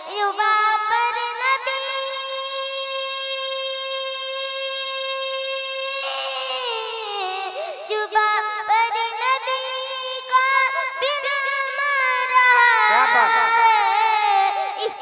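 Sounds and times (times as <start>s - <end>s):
girl singing into microphone: 0.0s - 15.0s.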